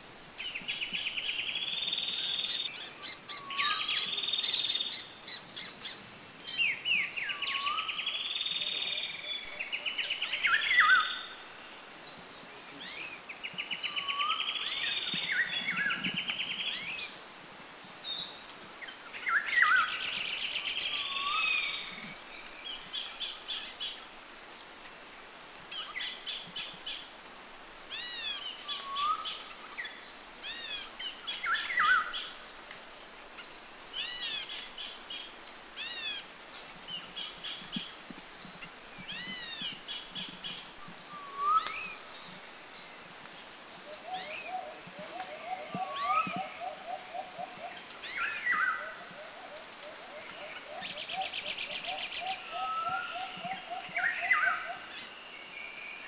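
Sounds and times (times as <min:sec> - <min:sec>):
songbirds chirping and trilling: 0:00.0 - 0:11.3, 0:19.1 - 0:56.0
faint steady hiss: 0:00.0 - 0:56.0.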